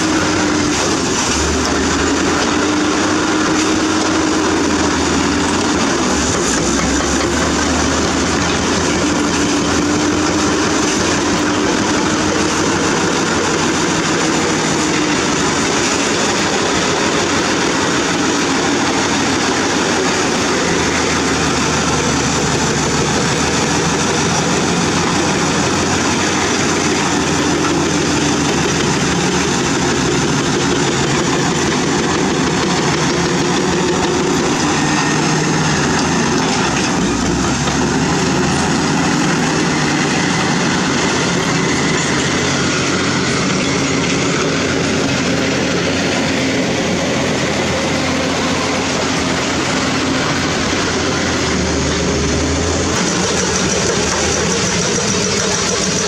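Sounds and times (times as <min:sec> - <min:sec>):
bulldozer diesel engine running: 0:00.0 - 0:56.0
steel tracks clattering: 0:00.0 - 0:56.0.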